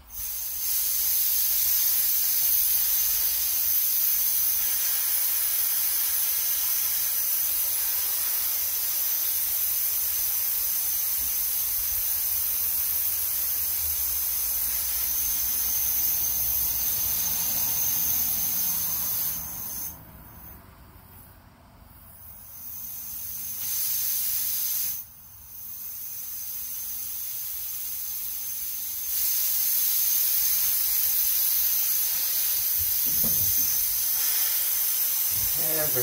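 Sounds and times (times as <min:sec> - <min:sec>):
compressed air hissing from leak: 0:00.0 - 0:36.0.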